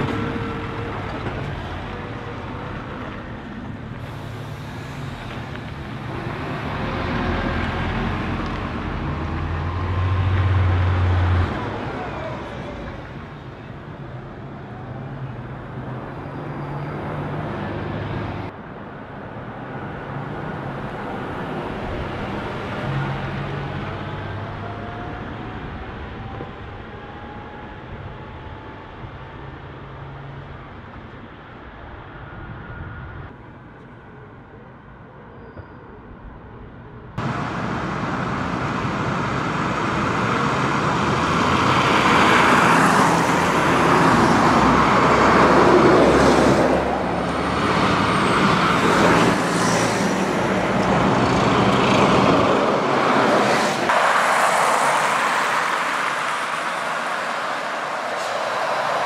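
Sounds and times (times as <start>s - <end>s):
diesel buses passing: 0.0s - 59.0s.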